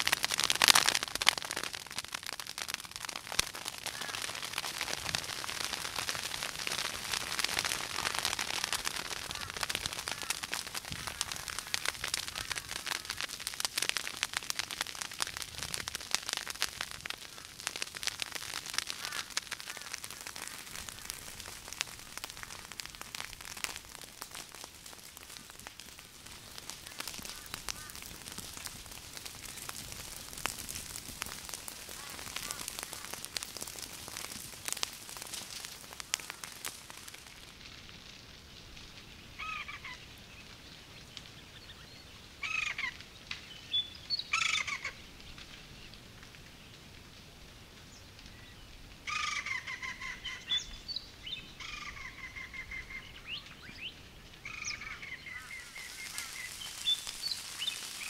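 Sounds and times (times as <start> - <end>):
bushfire crackling and popping: 0.0 - 58.0.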